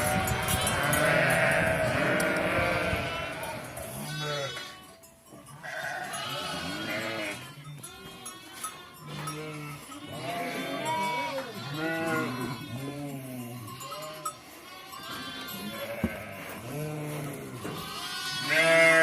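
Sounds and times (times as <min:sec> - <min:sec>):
sheep bleating: 0:00.0 - 0:04.9, 0:05.6 - 0:19.0.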